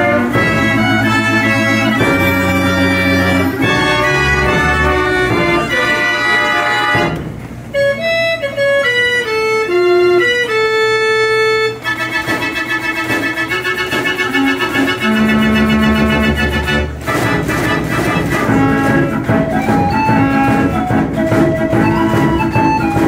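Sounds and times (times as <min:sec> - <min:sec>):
street organ playing: 0:00.0 - 0:23.0.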